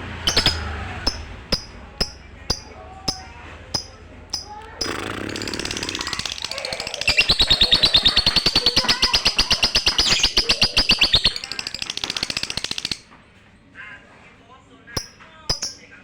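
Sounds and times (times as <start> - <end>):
bird chattering trill: 0.2 - 13.0, 15.0 - 16.0.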